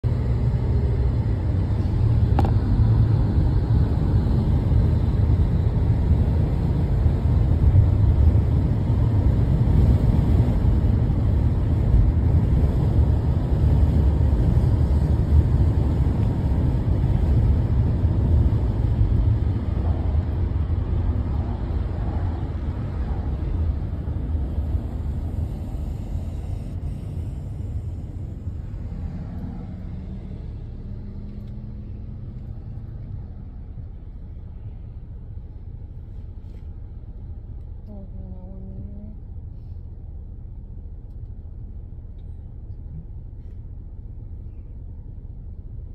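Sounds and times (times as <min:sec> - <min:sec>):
road and engine rumble in car: 0:00.0 - 0:45.9.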